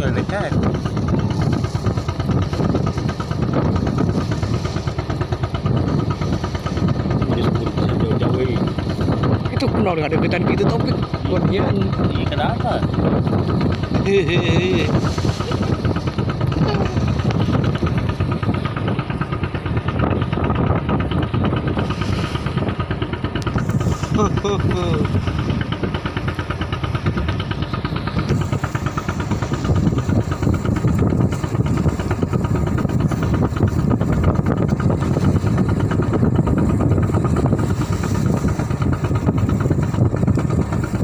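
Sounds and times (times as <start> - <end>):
boat engine chugging: 0.0 - 41.0.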